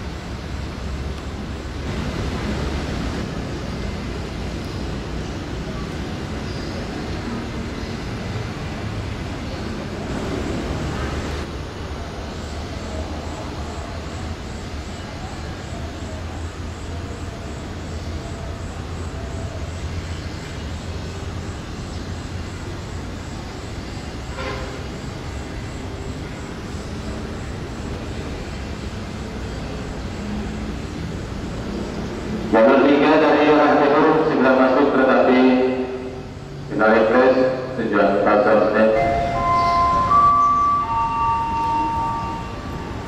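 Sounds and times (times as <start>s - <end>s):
low rumble of traffic: 0.0s - 43.0s.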